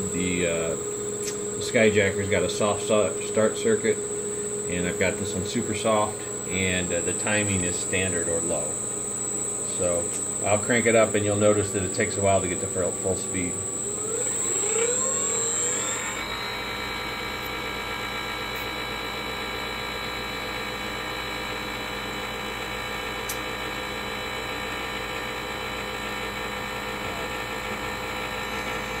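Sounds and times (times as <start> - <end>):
electric motor whining: 0.0 - 23.4, 25.0 - 29.0.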